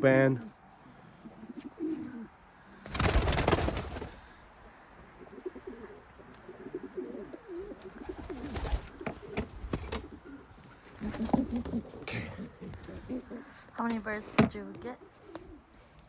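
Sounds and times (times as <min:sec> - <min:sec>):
pigeons cooing: 0:01.1 - 0:13.6, 0:15.0 - 0:15.9.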